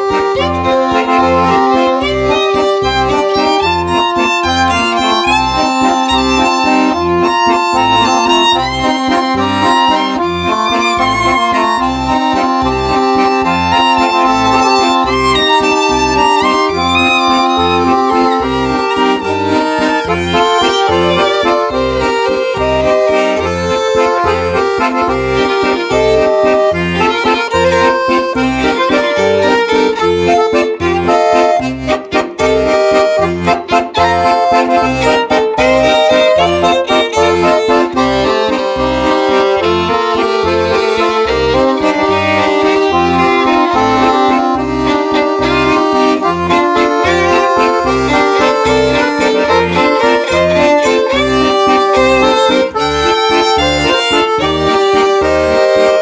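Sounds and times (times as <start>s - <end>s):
accordion and violin dance tune: 0.0s - 56.0s.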